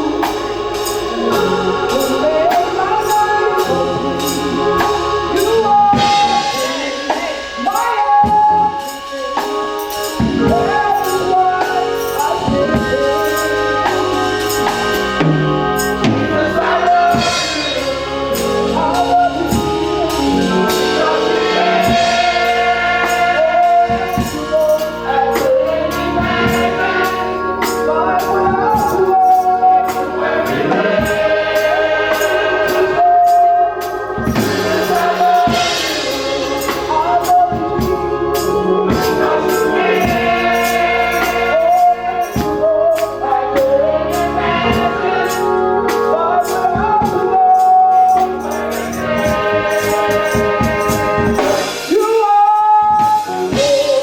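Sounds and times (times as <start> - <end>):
drums: 0.0 - 54.0
gospel choir singing: 0.0 - 54.0
tambourine: 0.0 - 54.0.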